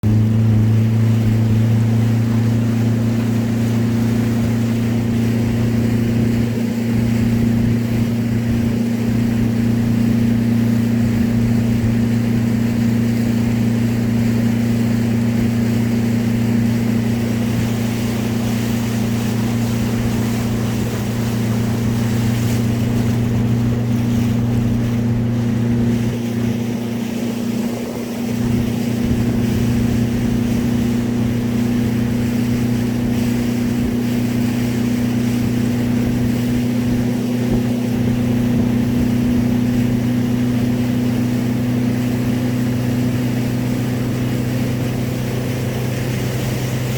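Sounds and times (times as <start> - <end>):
speedboat engine drone: 0.0 - 46.9
wind and water rushing: 0.0 - 46.9.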